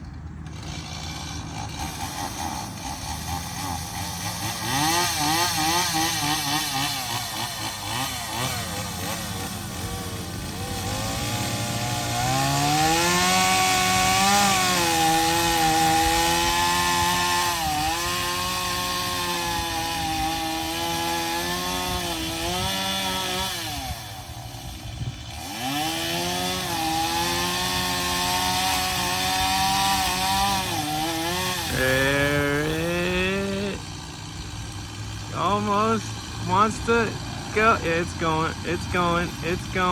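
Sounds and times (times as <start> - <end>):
chainsaw cutting into a tree: 0.0 - 39.9.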